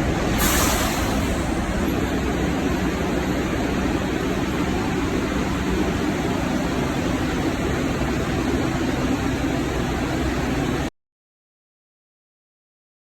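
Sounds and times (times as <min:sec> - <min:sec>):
subway train running: 0:00.0 - 0:10.9.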